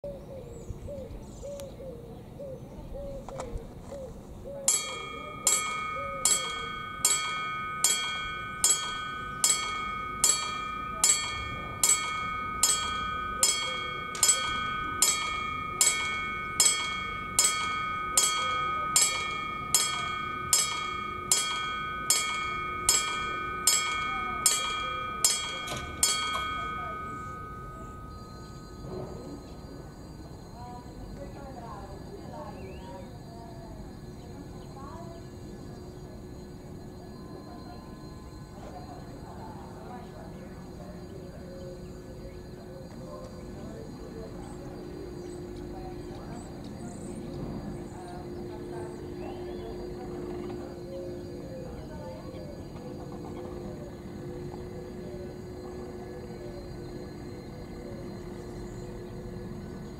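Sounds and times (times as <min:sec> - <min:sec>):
level-crossing warning bell: 0:04.7 - 0:59.9.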